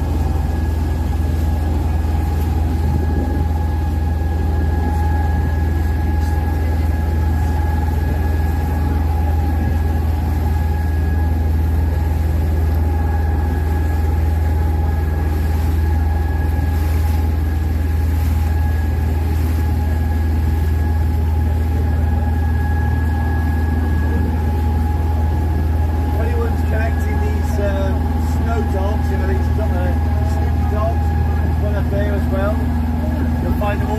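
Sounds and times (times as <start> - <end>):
boat engine droning: 0.0 - 33.9
thin steady whine: 0.0 - 33.9.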